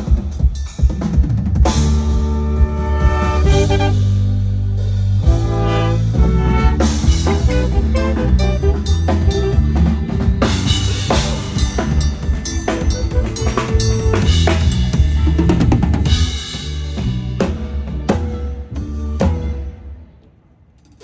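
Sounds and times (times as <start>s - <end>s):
booming bass drum: 0.0s - 19.6s
bass line: 1.6s - 19.7s.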